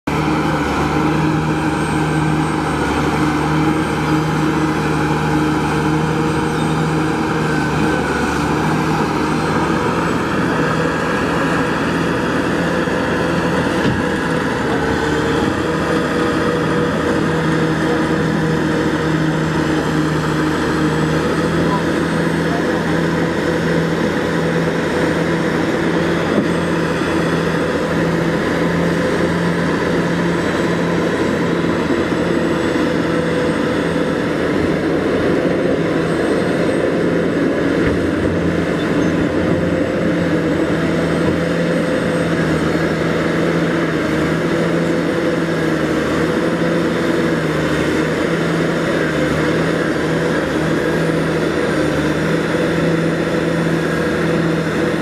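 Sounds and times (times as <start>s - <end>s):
loud diesel engine running: 0.0s - 55.0s.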